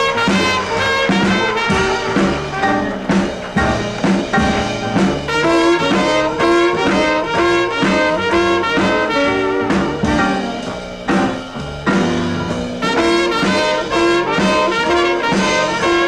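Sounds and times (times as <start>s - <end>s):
tenor saxophone: 0.0s - 11.3s, 12.8s - 16.0s
plucked double bass: 0.0s - 16.0s
trumpet: 0.0s - 16.0s.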